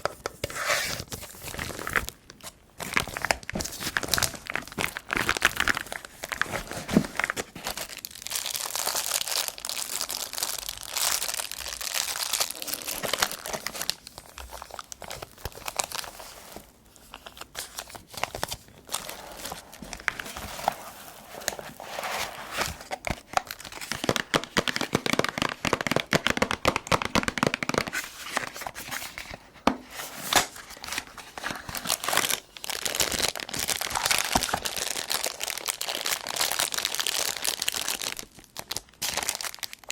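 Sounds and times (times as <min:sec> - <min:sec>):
wrapping crinkling and tearing: 0:00.0 - 0:39.9.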